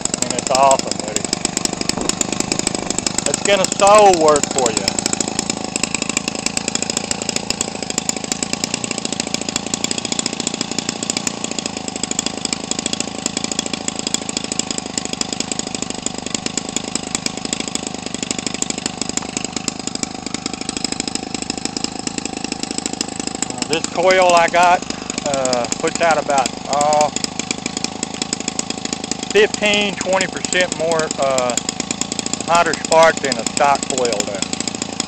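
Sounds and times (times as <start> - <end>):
two-stroke engine running: 0.0 - 35.0.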